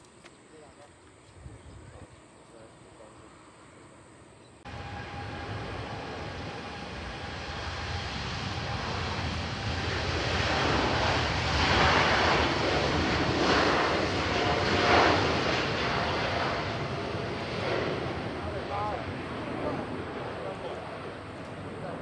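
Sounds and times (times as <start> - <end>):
jet engine roar with whine: 0.5 - 22.0.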